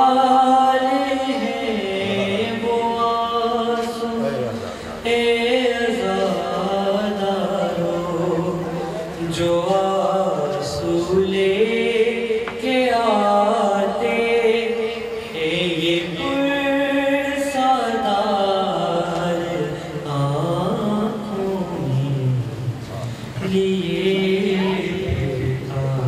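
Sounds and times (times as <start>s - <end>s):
man chanting a lament: 0.0s - 26.0s.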